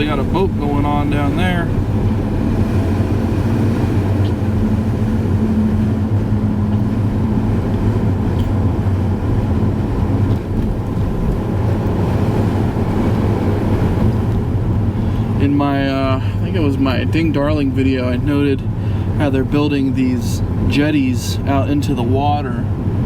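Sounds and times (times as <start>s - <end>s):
road and engine noise in car: 0.0s - 23.0s.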